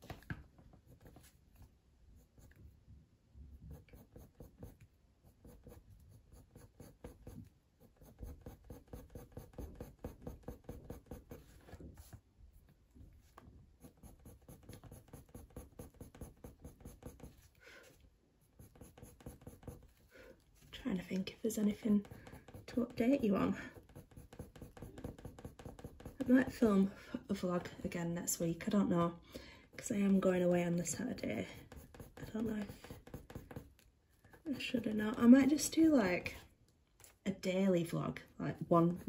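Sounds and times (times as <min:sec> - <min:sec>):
pencil scratching on paper: 0:00.8 - 0:02.6, 0:03.6 - 0:12.2, 0:13.3 - 0:28.0, 0:29.7 - 0:36.4, 0:38.5 - 0:39.0.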